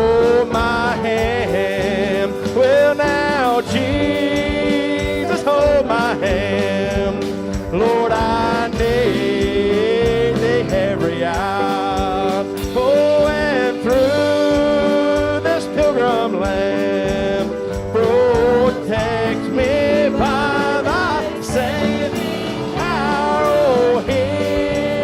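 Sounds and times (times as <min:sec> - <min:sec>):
country gospel band playing: 0:00.0 - 0:25.0.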